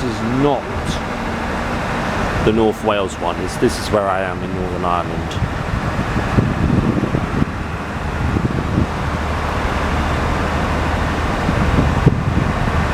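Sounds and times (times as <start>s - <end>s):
vehicle engine idling: 0.0s - 12.9s
wind buffeting microphone: 0.0s - 12.9s.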